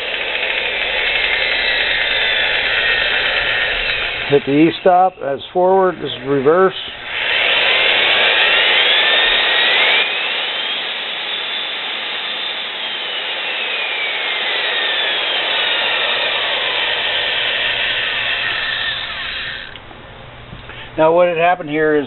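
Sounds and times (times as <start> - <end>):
electric drill motor whining: 0.0 - 19.9.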